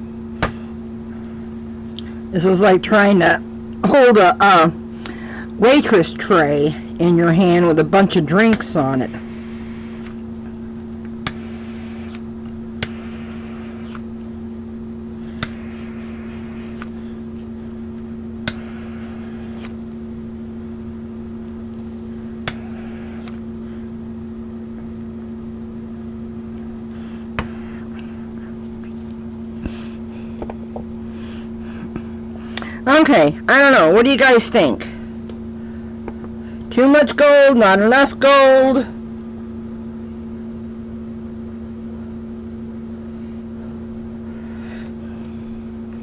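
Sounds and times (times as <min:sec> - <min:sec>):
mechanical hum: 0:00.0 - 0:46.0.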